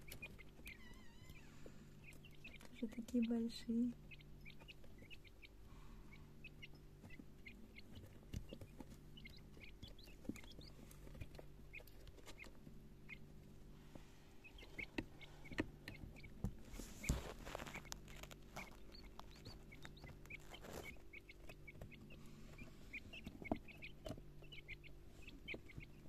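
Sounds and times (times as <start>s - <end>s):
quail chicks peeping: 0.0s - 26.0s.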